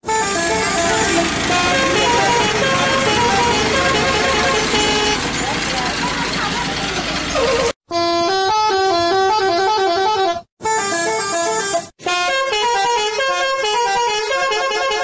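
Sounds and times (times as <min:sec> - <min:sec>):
musical air horn tune: 0:00.0 - 0:05.5, 0:07.5 - 0:15.0.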